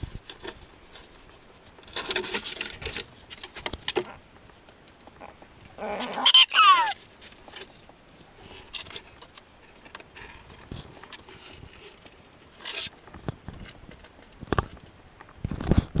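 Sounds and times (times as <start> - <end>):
prairie dog scuffling: 0.0 - 15.8.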